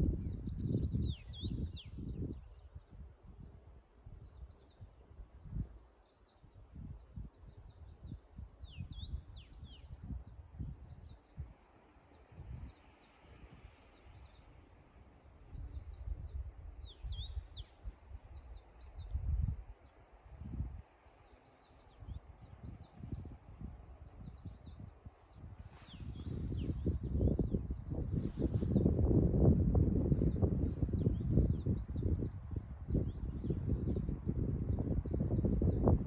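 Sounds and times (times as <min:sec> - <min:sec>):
songbirds chirping: 0:00.0 - 0:36.0
wind rumbling on microphone: 0:00.0 - 0:36.0.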